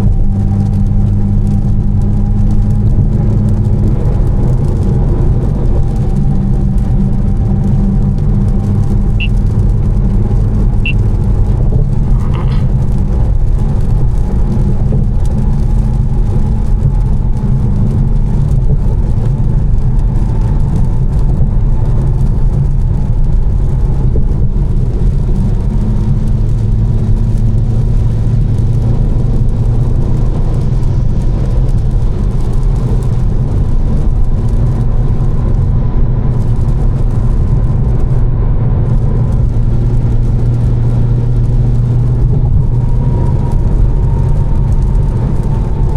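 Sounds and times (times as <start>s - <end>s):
car engine cruising: 0.0s - 45.9s
tyre noise on wet road: 0.0s - 45.9s.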